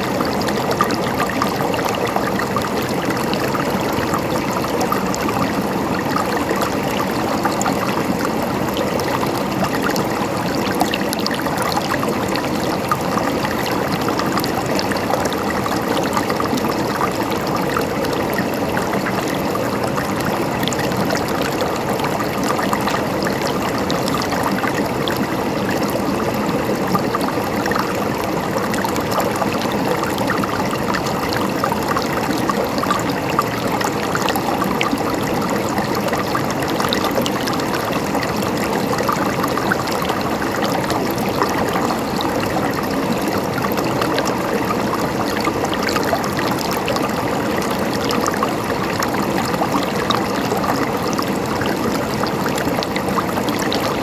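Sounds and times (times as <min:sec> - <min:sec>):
stream gurgling over rocks: 0:00.0 - 0:54.0.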